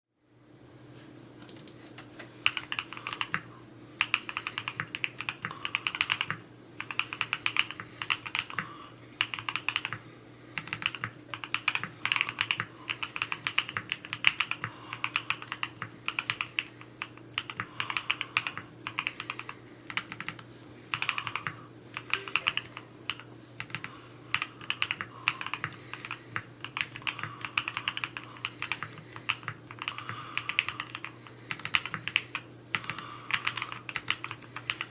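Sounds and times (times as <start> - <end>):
faint steady hum: 0.2 - 34.9
mechanical keyboard typing: 2.4 - 34.9.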